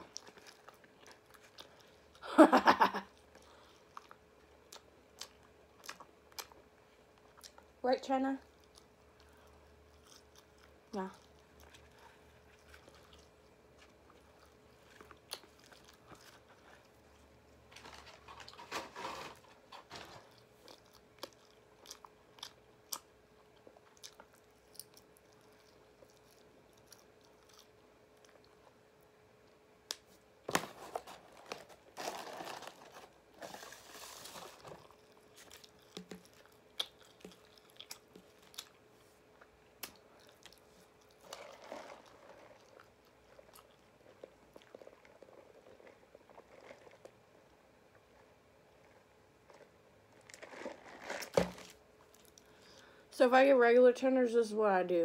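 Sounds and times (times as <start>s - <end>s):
person chewing crunchy food: 0.0s - 2.2s, 3.1s - 7.7s, 8.5s - 19.3s, 19.9s - 28.8s, 30.9s - 53.0s
faint steady hum: 0.0s - 55.0s.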